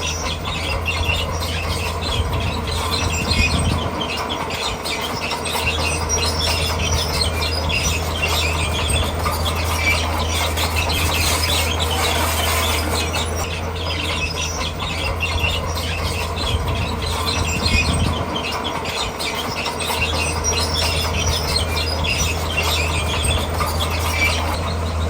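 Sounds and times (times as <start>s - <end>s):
bulldozer diesel engine running: 0.0s - 25.0s
steel tracks squealing and clattering: 0.0s - 25.0s.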